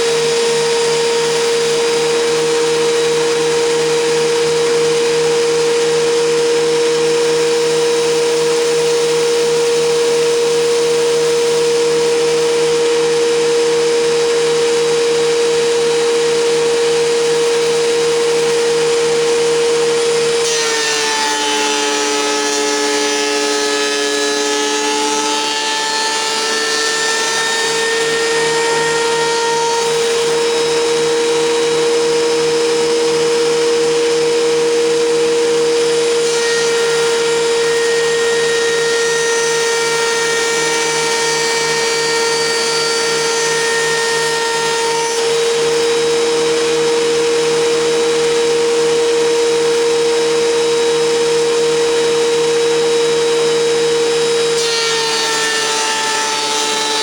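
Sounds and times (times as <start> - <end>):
thickness planer motor whine: 0.0 - 57.0.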